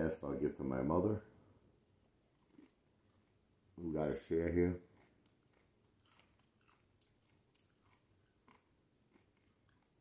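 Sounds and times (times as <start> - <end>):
faint chewing sandwich: 1.6 - 10.0.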